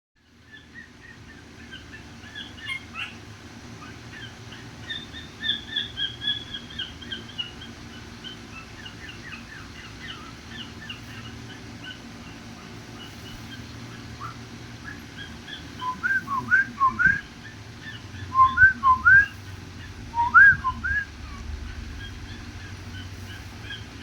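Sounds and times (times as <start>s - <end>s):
faint low hum: 0.2s - 24.0s
animal chirping: 0.5s - 24.0s.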